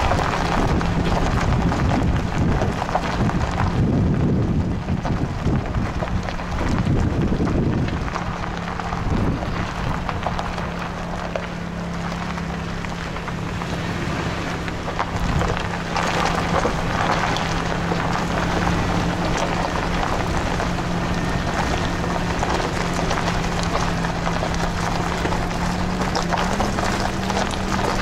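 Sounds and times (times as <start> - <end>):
low engine hum: 0.0 - 28.0
tyres crackling on gravel: 0.0 - 28.0
wind on microphone: 0.0 - 28.0.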